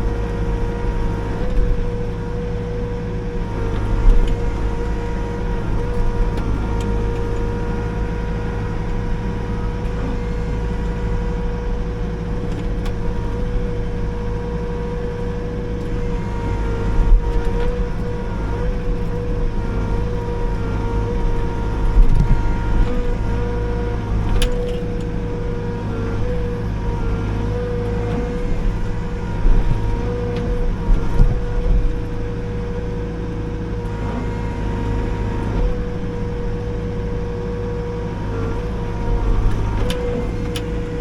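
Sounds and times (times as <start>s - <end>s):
excavator diesel engine whine: 0.0s - 41.0s.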